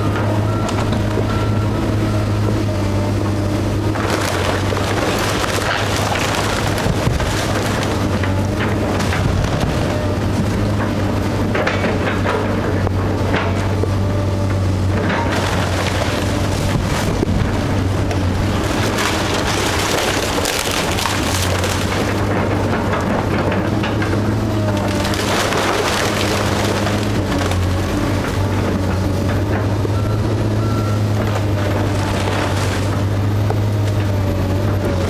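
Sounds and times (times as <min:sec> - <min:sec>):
excavator running: 0:00.0 - 0:35.0
wood crunching and splintering: 0:00.0 - 0:35.0.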